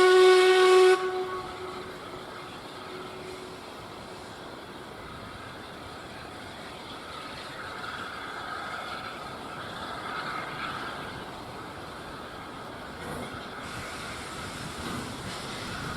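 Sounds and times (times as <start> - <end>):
steam train running: 0.0 - 15.9.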